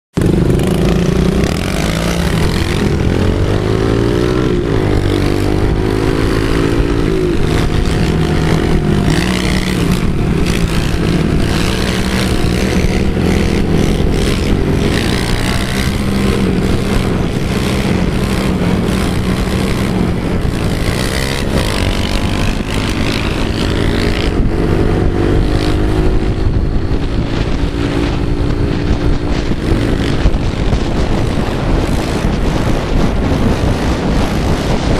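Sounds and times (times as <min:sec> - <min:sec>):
pit bike engines revving: 0:00.2 - 0:34.9.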